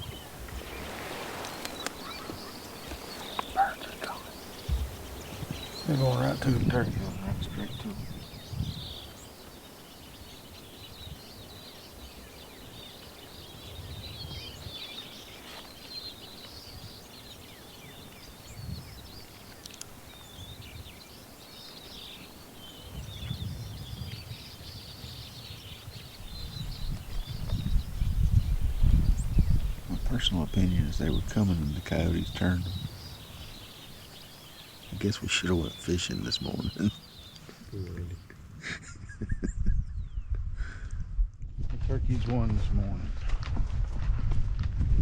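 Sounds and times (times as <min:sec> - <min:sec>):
wind buffeting microphone: 0:00.0 - 0:21.1, 0:21.9 - 0:45.0
songbirds chirping: 0:00.0 - 0:43.2.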